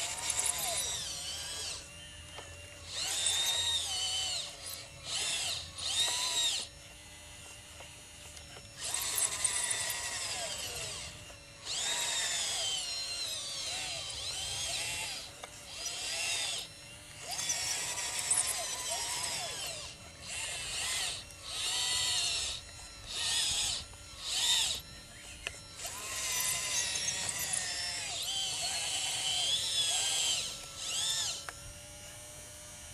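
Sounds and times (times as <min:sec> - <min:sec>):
electric motors whining: 0:00.0 - 0:32.9
faint steady hum: 0:00.0 - 0:32.9.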